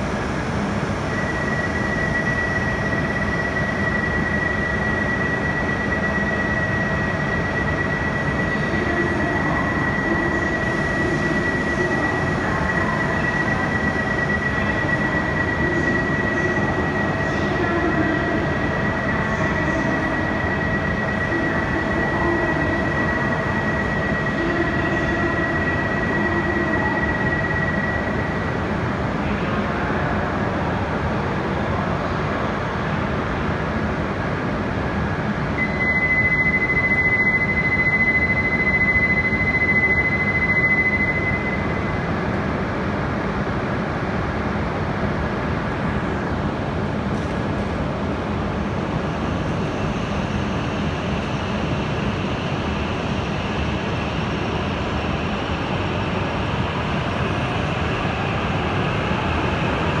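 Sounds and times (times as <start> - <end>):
train rumble and hum: 0.0 - 60.0.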